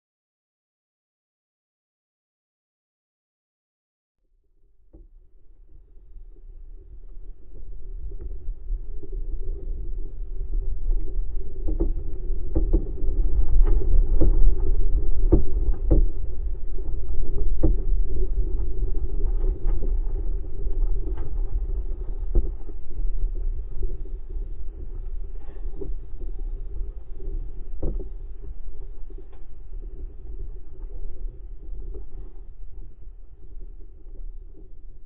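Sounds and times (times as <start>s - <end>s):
low hum: 4.3s - 35.0s
wind buffeting microphone: 5.4s - 35.0s.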